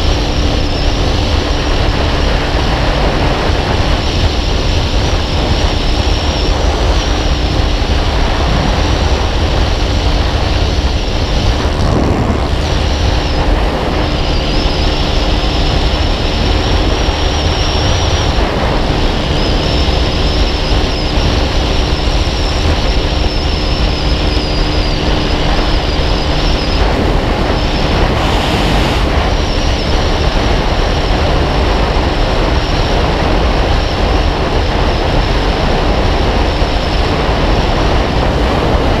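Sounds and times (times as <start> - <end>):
motorcycle engine running: 0.0 - 39.0
road noise: 0.0 - 39.0
wind rush: 0.0 - 39.0.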